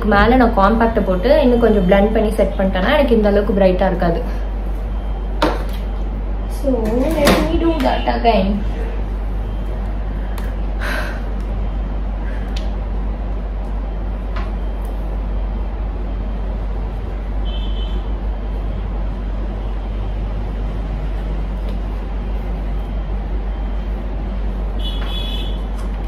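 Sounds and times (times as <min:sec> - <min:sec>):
low rumbling background noise: 0:00.0 - 0:26.0.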